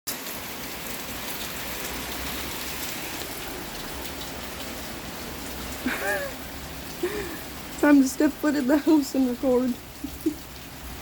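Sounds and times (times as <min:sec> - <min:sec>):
heavy rain pouring: 0:00.1 - 0:11.0.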